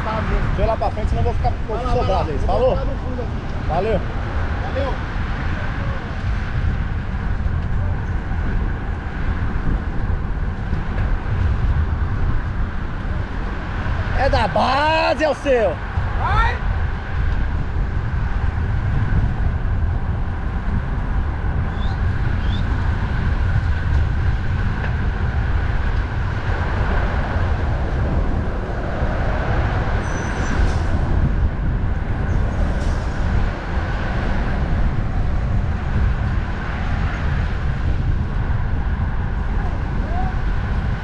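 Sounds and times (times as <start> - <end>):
road and traffic noise: 0.0 - 41.0
wind buffeting microphone: 0.0 - 41.0.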